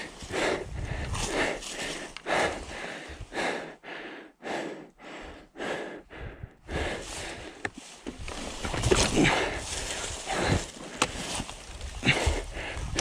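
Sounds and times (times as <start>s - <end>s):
person panting: 0.0s - 8.0s, 8.9s - 13.0s.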